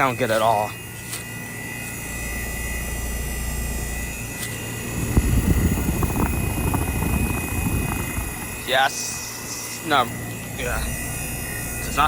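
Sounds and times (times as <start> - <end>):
heat pump fan and compressor hum: 0.0 - 12.0.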